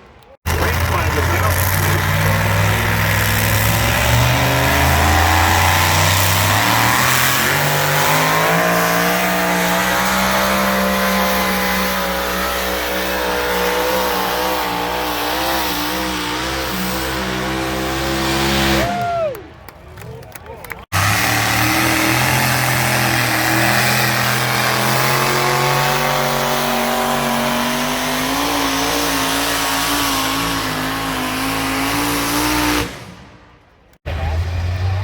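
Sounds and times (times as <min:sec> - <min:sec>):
tractor engine at full throttle: 0:00.2 - 0:18.9, 0:20.9 - 0:35.0.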